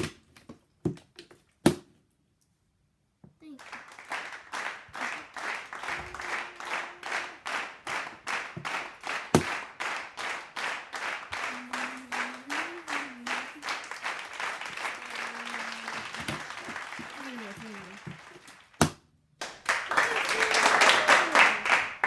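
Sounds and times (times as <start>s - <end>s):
rhythmic clapping: 3.5s - 22.0s.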